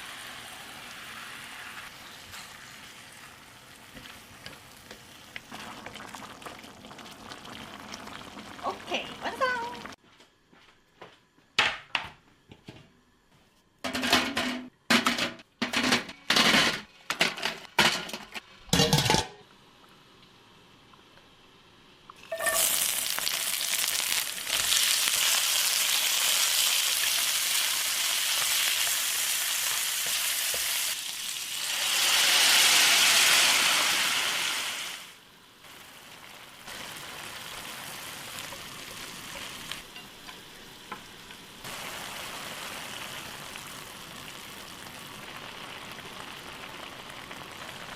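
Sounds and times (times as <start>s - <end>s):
food sizzling in hot pan: 0.0s - 10.0s, 18.7s - 47.9s.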